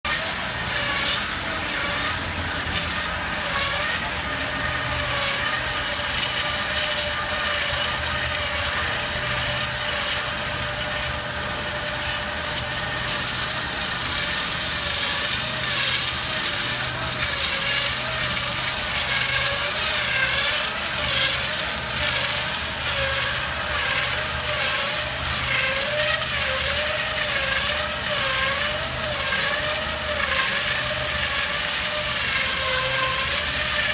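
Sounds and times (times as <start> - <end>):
low motor hum: 0.0 - 33.9
wire saw machine whine: 0.0 - 33.9.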